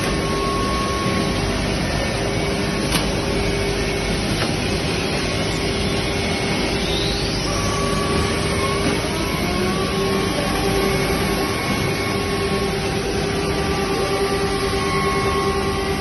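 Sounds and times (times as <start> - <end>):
machining centre droning: 0.0 - 16.0.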